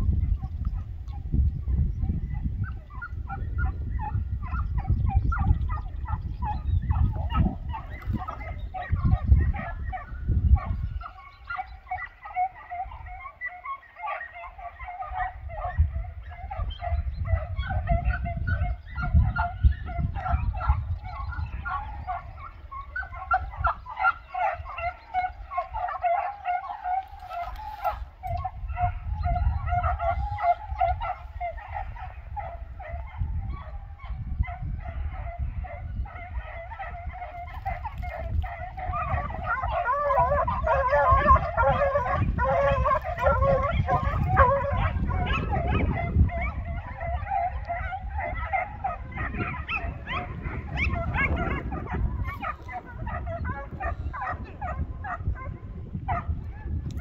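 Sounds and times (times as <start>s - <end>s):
distant hounds baying: 0.0s - 56.8s
wind rumble on microphone: 0.0s - 57.0s.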